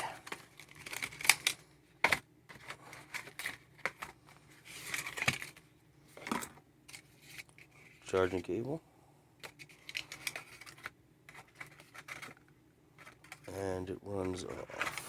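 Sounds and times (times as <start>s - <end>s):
packaging rustling: 0.0s - 8.4s, 9.4s - 13.5s, 14.3s - 15.0s.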